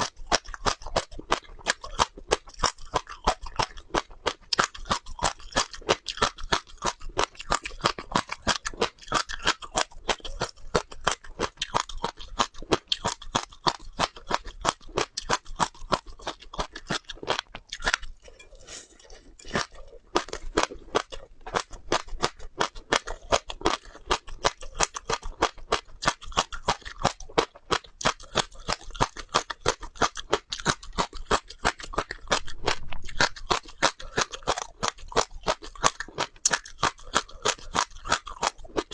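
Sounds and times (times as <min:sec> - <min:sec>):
seeds crunched by chewing: 0:00.0 - 0:38.9.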